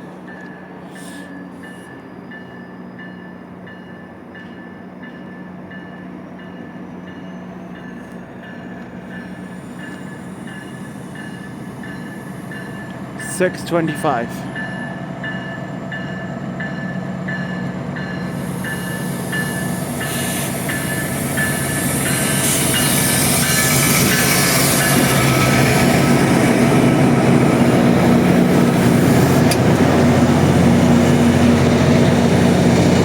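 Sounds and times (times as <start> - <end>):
diesel locomotive engine humming: 0.0 - 33.0.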